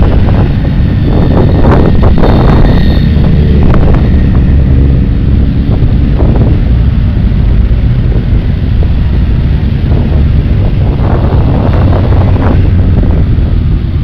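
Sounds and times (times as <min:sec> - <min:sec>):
motorcycle engines passing: 0:00.0 - 0:14.0
wind buffeting microphone: 0:00.0 - 0:14.0.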